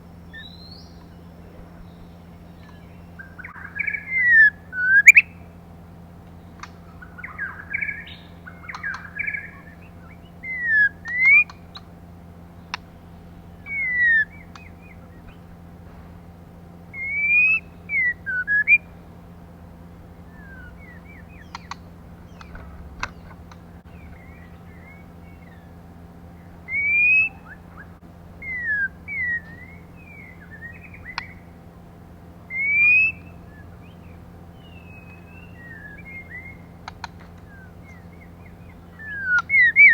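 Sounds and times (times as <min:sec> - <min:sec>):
steady low hum: 0:00.0 - 0:39.9
bird whistled calls: 0:00.2 - 0:05.6, 0:06.6 - 0:12.0, 0:12.6 - 0:15.6, 0:16.9 - 0:18.9, 0:20.2 - 0:31.6, 0:32.5 - 0:39.9.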